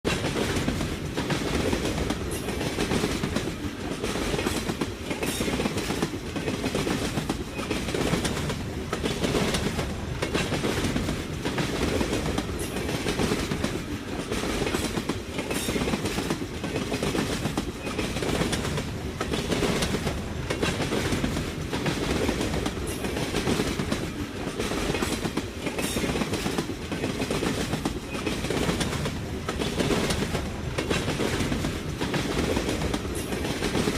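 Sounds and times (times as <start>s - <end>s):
railroad cars rumbling: 0.0s - 33.9s
wheels clacking over rail joints: 0.1s - 33.9s.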